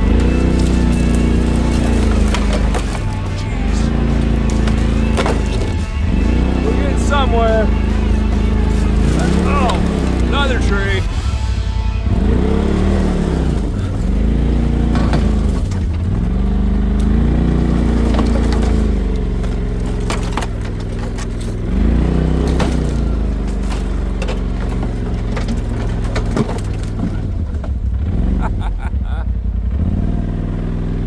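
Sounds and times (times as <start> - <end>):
branches cracking and snapping: 0.0 - 11.4, 12.2 - 28.2
off-road vehicle engine revving: 0.0 - 31.0.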